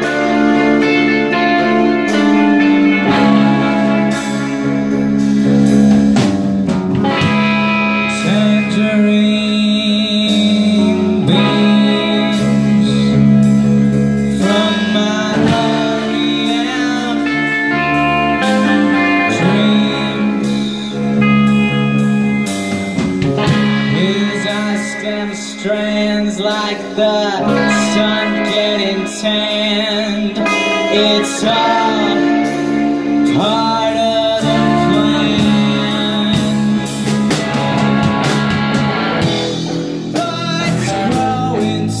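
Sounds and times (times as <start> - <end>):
man singing: 0.0 - 4.9, 7.1 - 22.3, 23.4 - 38.3, 39.2 - 42.0
drum kit: 0.0 - 42.0
electric bass: 0.0 - 42.0
electric guitar: 0.0 - 42.0.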